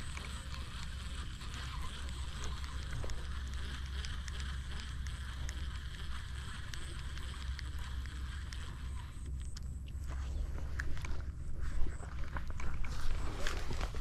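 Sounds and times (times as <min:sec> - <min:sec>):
small clicks: 0:00.0 - 0:11.4.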